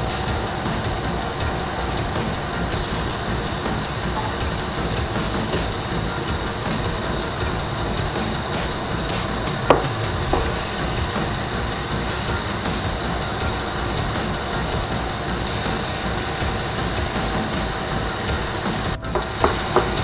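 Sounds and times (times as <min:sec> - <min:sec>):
meat sizzling on a griddle: 0:00.1 - 0:20.0.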